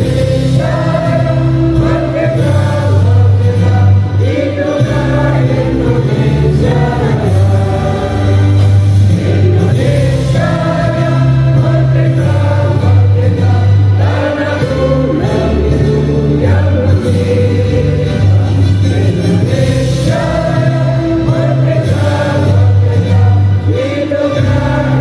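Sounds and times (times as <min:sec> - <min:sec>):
group singing in unison: 0:00.0 - 0:25.0
musical accompaniment with bass notes: 0:00.0 - 0:25.0.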